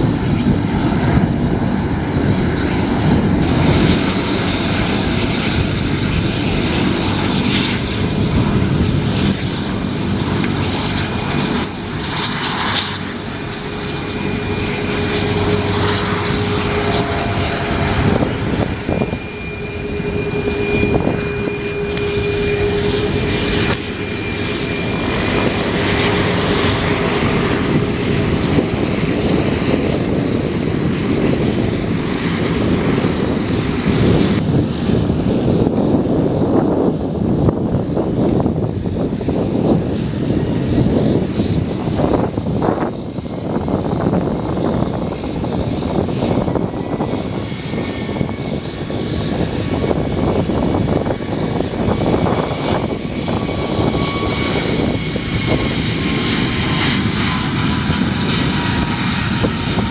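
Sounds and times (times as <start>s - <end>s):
airplane engines running: 0.0s - 59.9s
steady whine: 0.0s - 59.9s.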